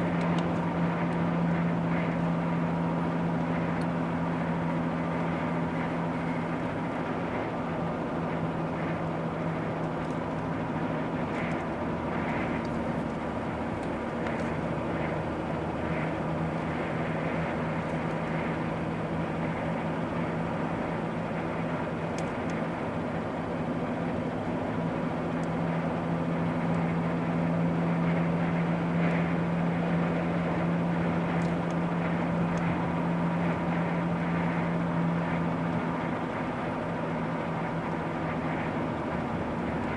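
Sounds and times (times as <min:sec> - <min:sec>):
car engine and tyres on road: 0:00.0 - 0:39.9.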